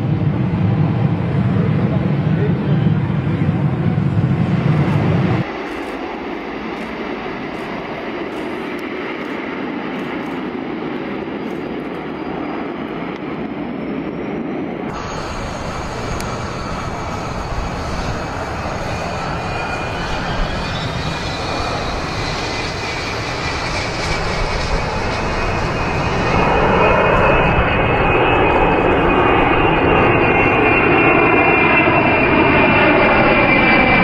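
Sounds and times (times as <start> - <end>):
jet engines rushing: 0.0 - 34.0
rising jet whine: 0.0 - 34.0.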